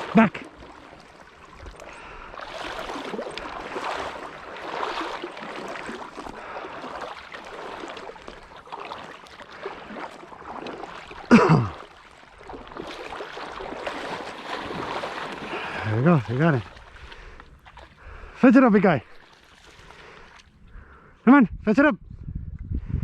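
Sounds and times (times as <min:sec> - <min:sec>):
water sloshing and splashing: 0:00.0 - 0:21.2.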